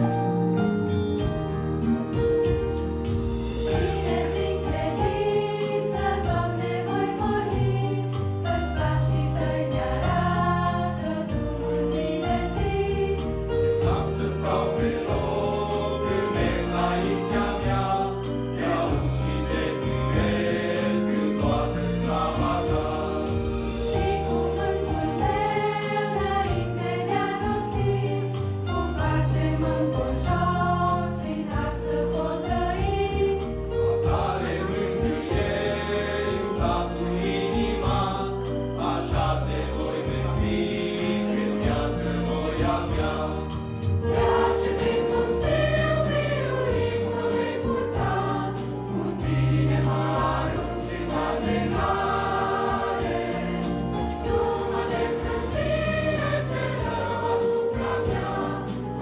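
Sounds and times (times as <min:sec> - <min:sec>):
choir singing a hymn: 0:03.2 - 0:59.0.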